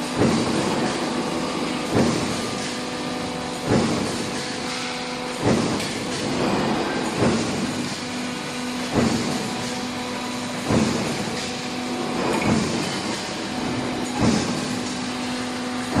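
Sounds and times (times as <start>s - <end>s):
hydraulic press humming: 0.0s - 16.0s
press thuds: 0.1s - 3.0s, 3.6s - 16.0s.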